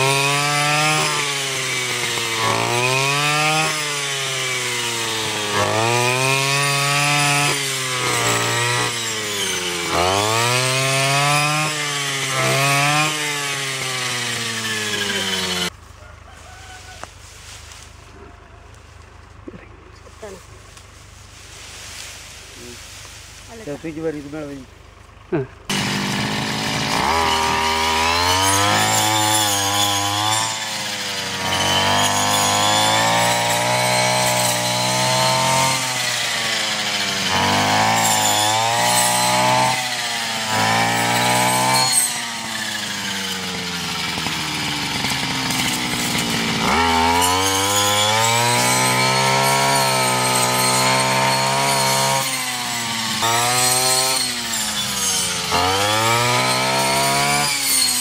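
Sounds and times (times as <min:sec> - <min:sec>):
brush cutter engine revving: 0:00.0 - 0:15.9, 0:17.0 - 0:58.0
blade cutting grass: 0:00.0 - 0:58.0.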